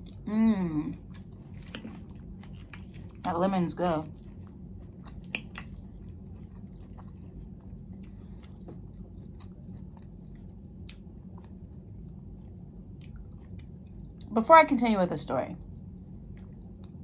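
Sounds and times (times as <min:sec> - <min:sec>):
person chewing crunchy food: 0:00.9 - 0:03.3, 0:04.1 - 0:14.3, 0:15.6 - 0:17.0.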